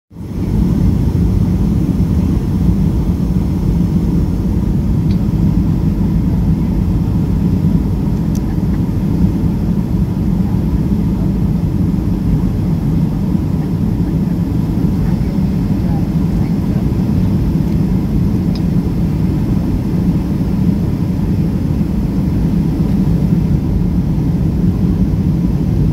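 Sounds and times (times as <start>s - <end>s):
airliner cabin engine rumble: 0.1s - 25.9s.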